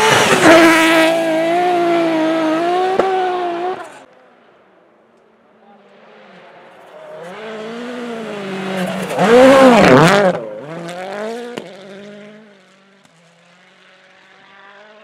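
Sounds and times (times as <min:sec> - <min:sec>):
rally car engine passing: 0:00.0 - 0:04.1, 0:05.6 - 0:15.0.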